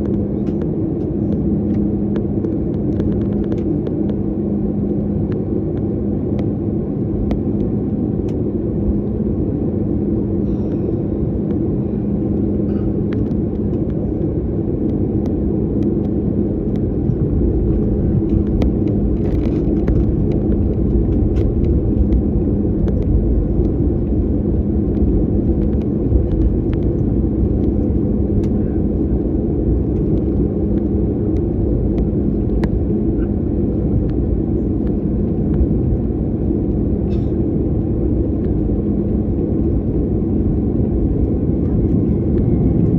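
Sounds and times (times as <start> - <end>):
constant hum: 0.0 - 42.9
jet engine and airflow rumble: 0.0 - 42.9.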